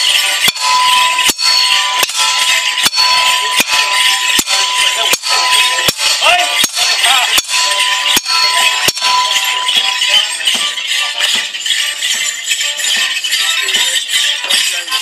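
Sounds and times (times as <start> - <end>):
dancers' clinks and jingles: 0.0 - 15.0
drum beating steadily: 0.0 - 15.0.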